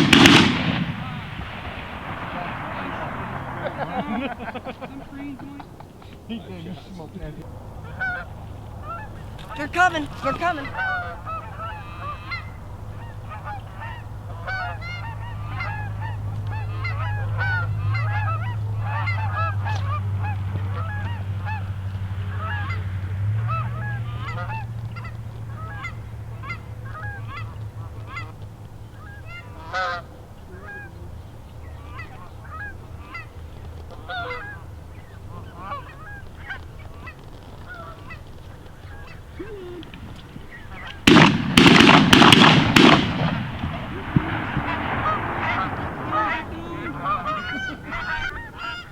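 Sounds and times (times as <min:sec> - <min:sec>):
geese honking: 0:00.0 - 0:48.9
steady low hum: 0:00.0 - 0:48.9.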